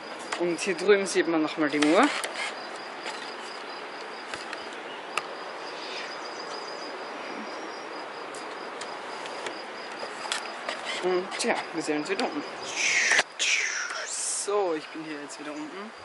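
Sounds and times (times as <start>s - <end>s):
high pulsing insect trill: 0.0s - 16.0s.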